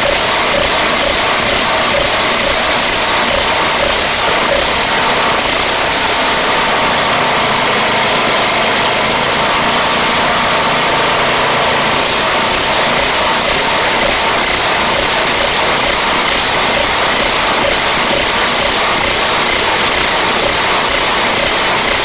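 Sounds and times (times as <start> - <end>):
snowblower engine running: 0.0 - 22.0.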